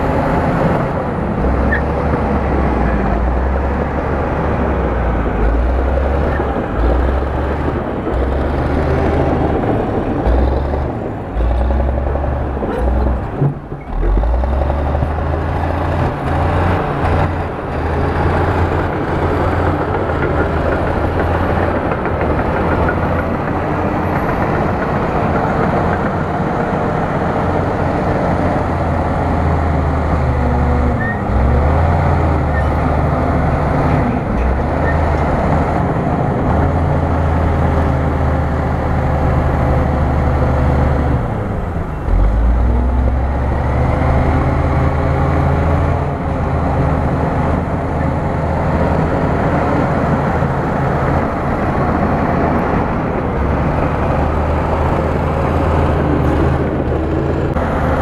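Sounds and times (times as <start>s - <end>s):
bulldozer diesel engine rumbling: 0.0s - 58.0s.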